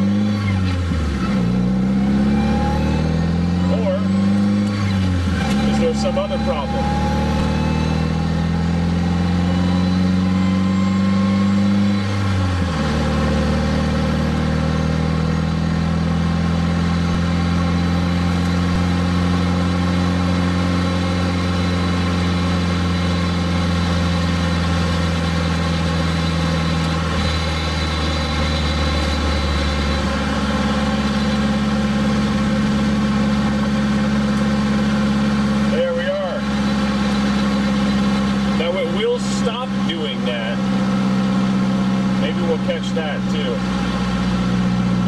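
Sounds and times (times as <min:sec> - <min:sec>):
pickup truck engine running: 0:00.0 - 0:45.0.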